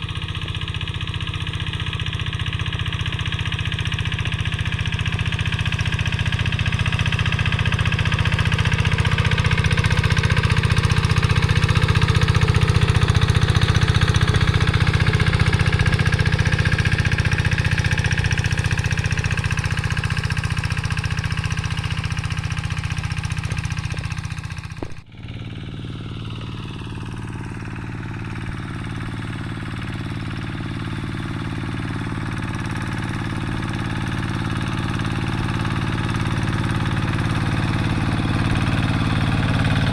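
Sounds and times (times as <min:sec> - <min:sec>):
hand tractor diesel engine running: 0:00.0 - 0:39.9.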